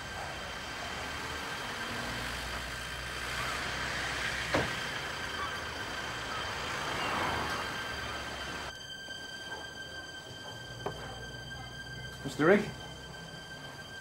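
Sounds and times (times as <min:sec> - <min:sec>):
constant high tone: 0:00.0 - 0:14.0
passing vehicles rumble: 0:00.0 - 0:14.0.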